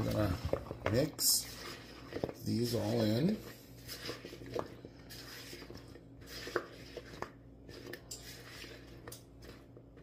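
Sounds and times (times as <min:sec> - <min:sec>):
spatula scraping plastic bowl: 0:00.0 - 0:10.0.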